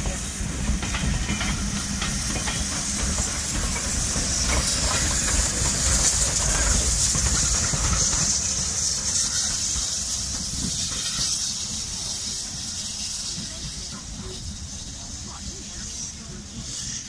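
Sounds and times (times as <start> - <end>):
hiss of escaping steam: 0.0 - 17.0
low rumble of train: 0.0 - 17.0.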